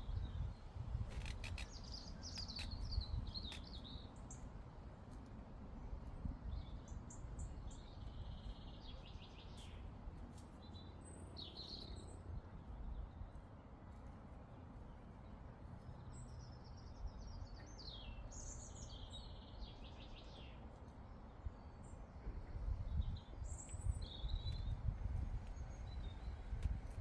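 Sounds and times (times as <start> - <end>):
songbirds chirping and trilling: 0.0 - 5.1, 5.8 - 27.0.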